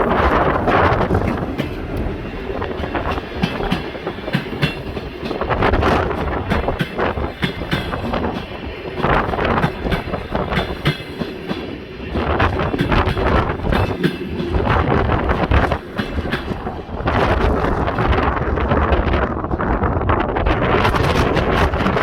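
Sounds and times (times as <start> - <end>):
train wheels clacking over rail joints: 0.0 - 18.2
train rumble: 0.0 - 22.0.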